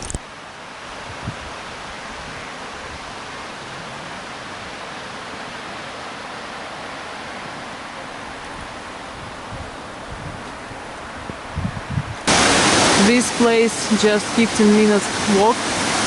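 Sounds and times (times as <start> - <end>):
small waterfall rushing: 0.0 - 11.6, 12.2 - 16.0.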